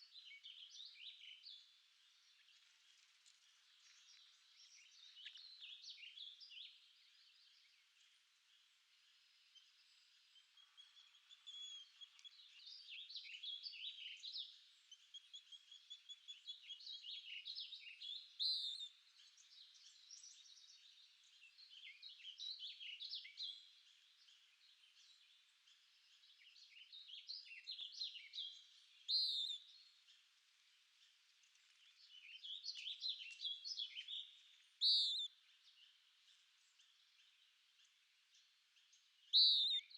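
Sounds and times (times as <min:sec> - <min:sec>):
birds singing and chirping: 0:00.0 - 0:08.2, 0:08.9 - 0:39.9.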